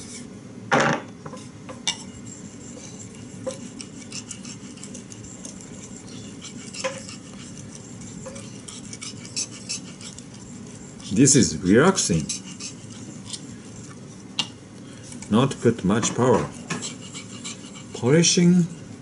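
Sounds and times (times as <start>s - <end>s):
knife scraping on whetstone: 0.0s - 0.3s, 1.3s - 14.3s, 16.2s - 18.9s.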